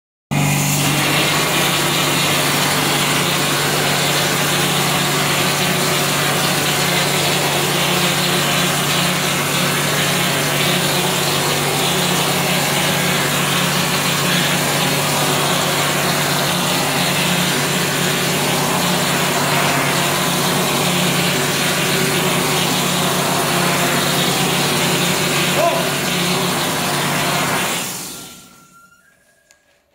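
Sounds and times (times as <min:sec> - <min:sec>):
low motor hum: 0:00.3 - 0:27.7.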